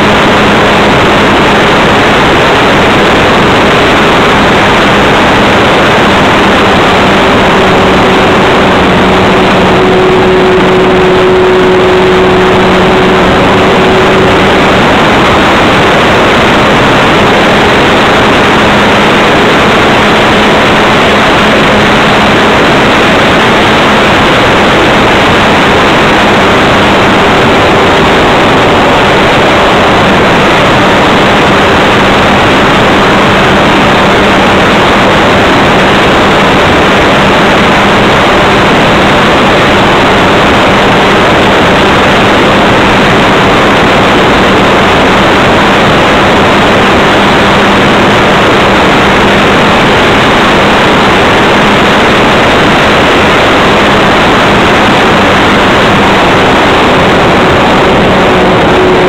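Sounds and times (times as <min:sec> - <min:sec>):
model plane motor and propeller: 0:00.0 - 0:56.2
rushing airflow: 0:00.0 - 0:59.0.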